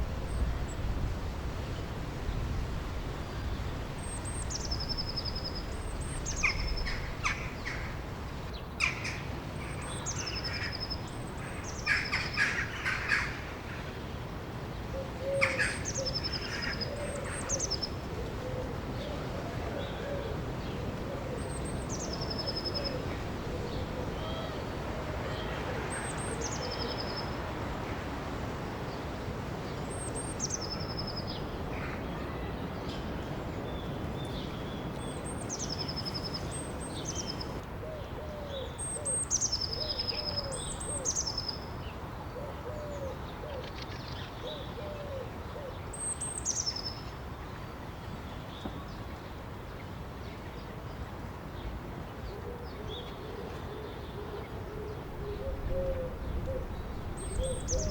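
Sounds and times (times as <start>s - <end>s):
birds singing: 1.8s - 19.2s, 19.8s - 27.4s, 29.7s - 47.1s, 51.6s - 57.9s.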